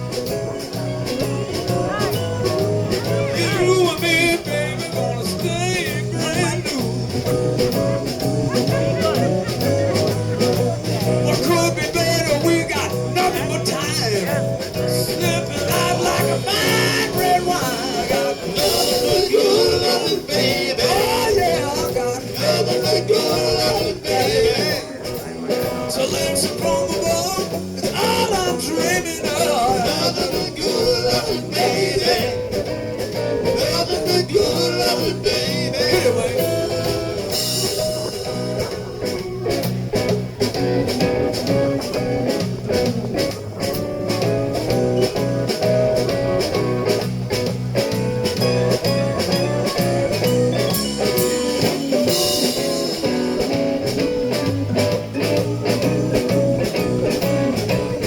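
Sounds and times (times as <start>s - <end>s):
blues-rock band playing: 0.0s - 58.0s.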